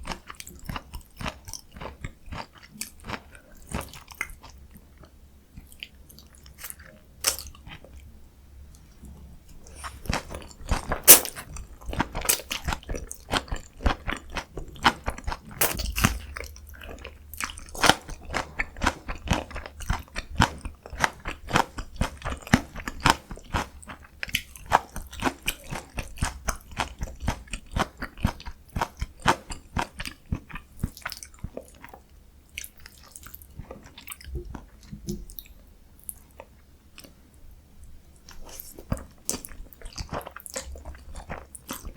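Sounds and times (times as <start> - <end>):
person chewing crunchy food: 0.0 - 8.1, 9.6 - 37.2, 38.2 - 41.9.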